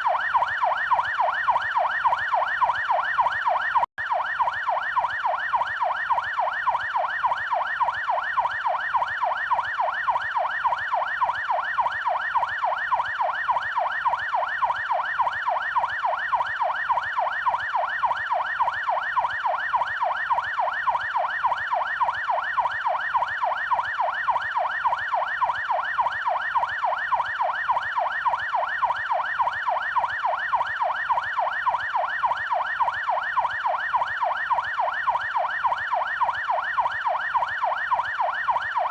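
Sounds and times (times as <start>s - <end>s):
police siren yelping: 0.0s - 38.9s.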